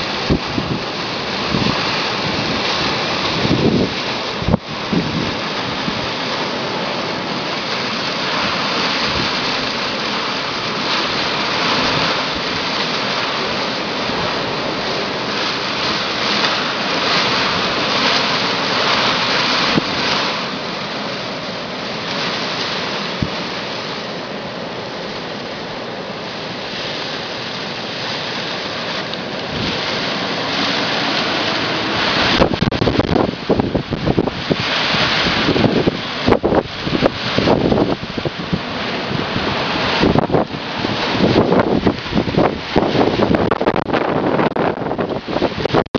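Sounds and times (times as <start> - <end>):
wind gusting through palm fronds: 0.0 - 45.9.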